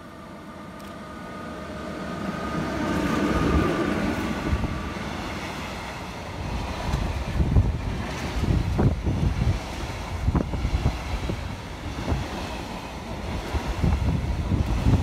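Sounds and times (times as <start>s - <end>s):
train running past: 0.0s - 15.0s.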